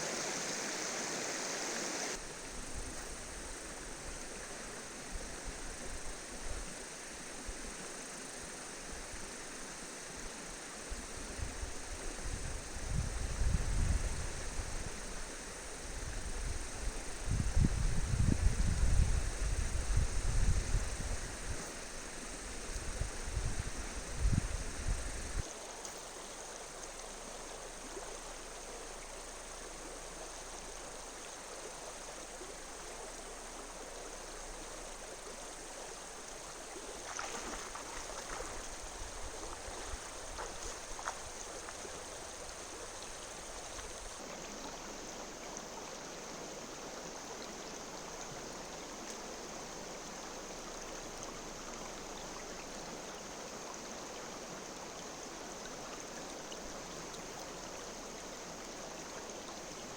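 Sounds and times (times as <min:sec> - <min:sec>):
river water flowing: 0:00.0 - 0:12.0, 0:23.8 - 0:59.9.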